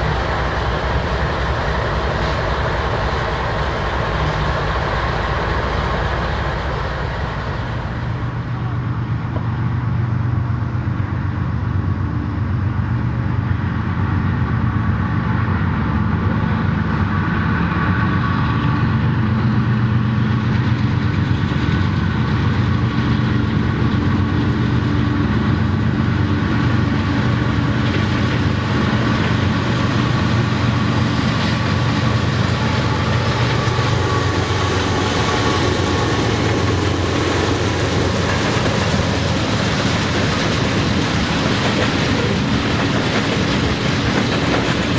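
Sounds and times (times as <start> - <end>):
diesel locomotive engines droning: 0.0 - 44.9
train wheel and rail noise: 0.0 - 44.9.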